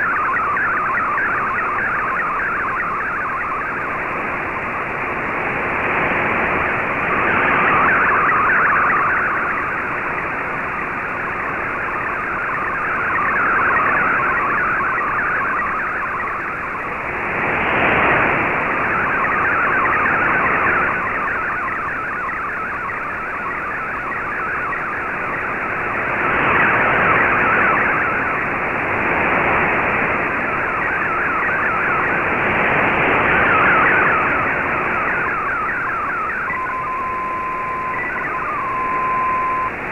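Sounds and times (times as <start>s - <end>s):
shortwave static: 0.0s - 39.9s
warbling digital radio tones: 0.0s - 39.9s.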